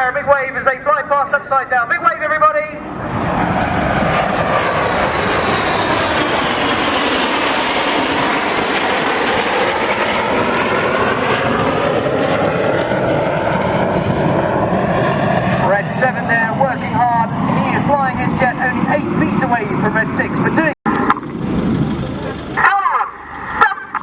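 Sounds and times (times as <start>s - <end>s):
jets flying past low: 0.0s - 24.0s.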